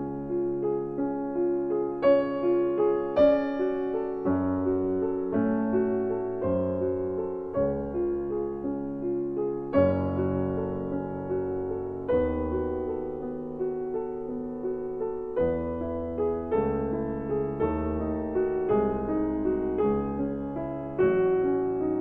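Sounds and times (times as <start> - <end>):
slow gentle piano chords: 0.0 - 22.0.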